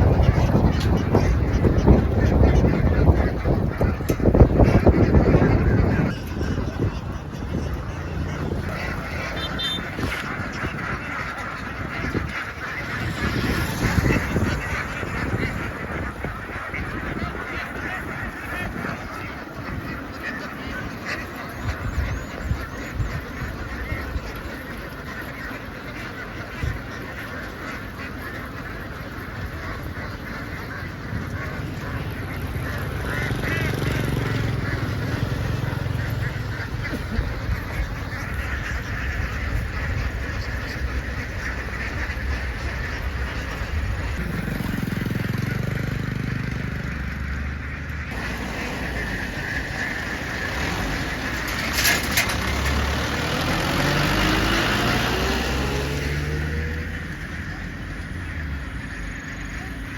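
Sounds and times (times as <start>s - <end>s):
flock of ducks quacking: 0.0s - 59.9s.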